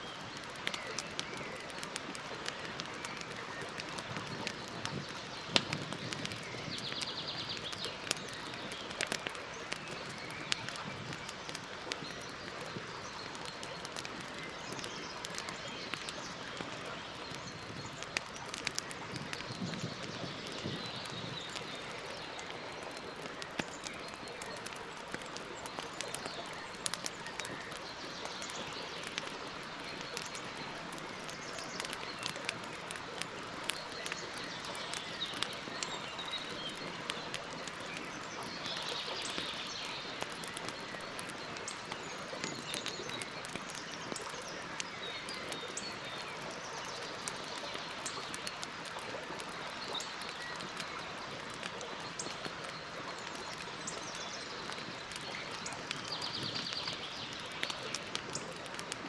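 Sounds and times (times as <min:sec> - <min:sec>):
faint birds chirping: 0:00.0 - 0:58.8
campfire crackling and popping: 0:00.0 - 0:59.0.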